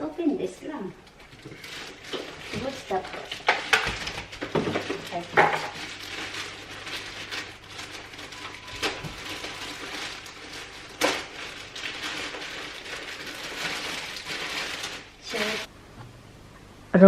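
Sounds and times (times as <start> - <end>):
packaging rustling: 1.0 - 15.7.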